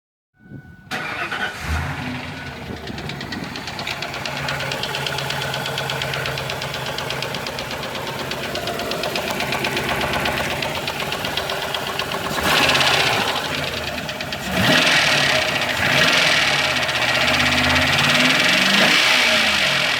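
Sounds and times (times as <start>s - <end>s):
engine idling: 0.8s - 19.9s.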